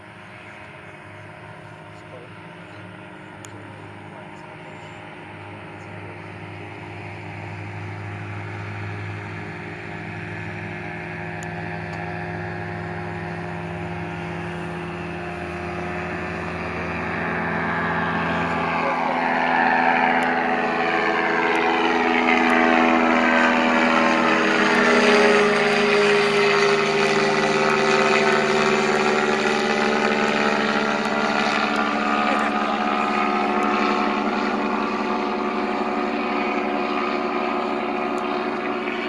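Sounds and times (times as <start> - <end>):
propeller aircraft engines droning: 0.0 - 39.0.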